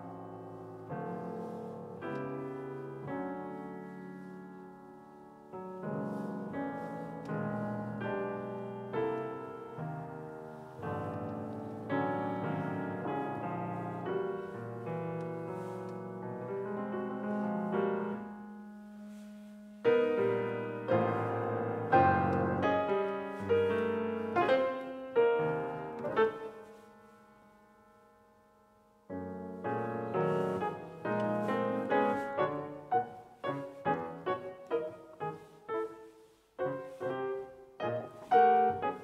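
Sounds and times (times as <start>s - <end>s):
solo grand piano: 0.0s - 39.0s.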